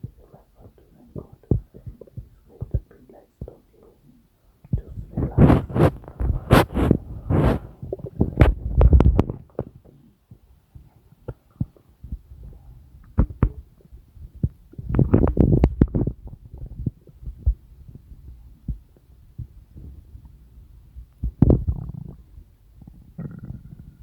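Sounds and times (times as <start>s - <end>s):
stomach rumbling and gurgling: 0.0s - 24.0s.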